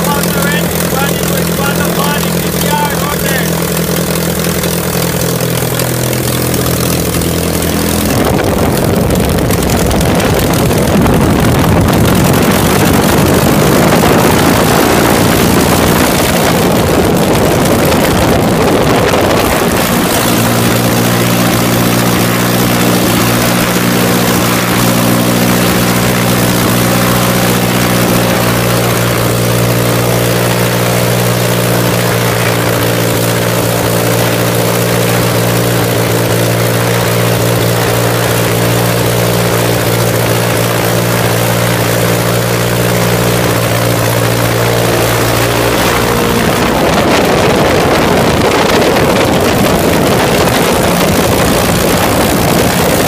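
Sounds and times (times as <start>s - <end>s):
propeller aircraft engine running: 0.0s - 53.0s.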